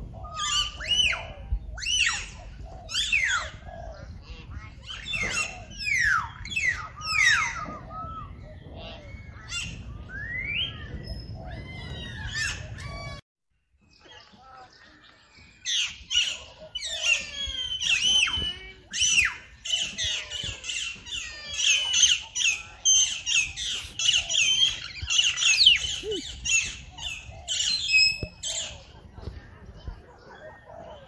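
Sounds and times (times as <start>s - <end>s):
small birds chirping: 0.1s - 31.0s.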